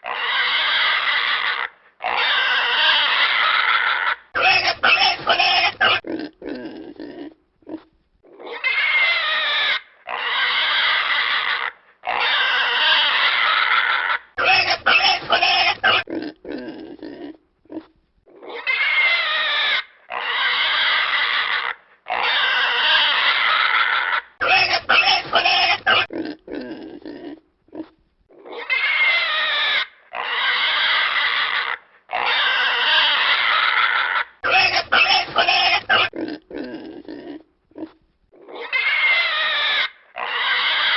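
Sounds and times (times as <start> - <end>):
pig grunting: 0.0 - 40.9
pig squealing: 0.0 - 40.9.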